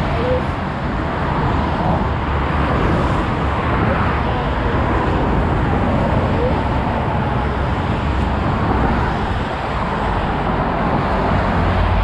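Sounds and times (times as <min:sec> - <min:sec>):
motorway traffic rushing: 0:00.0 - 0:12.0.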